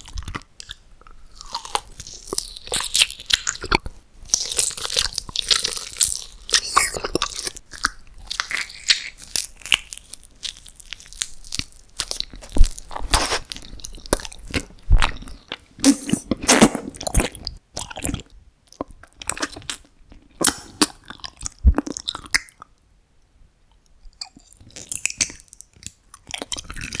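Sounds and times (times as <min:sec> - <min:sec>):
crunchy food chewing: 0:00.0 - 0:22.7, 0:24.1 - 0:27.0.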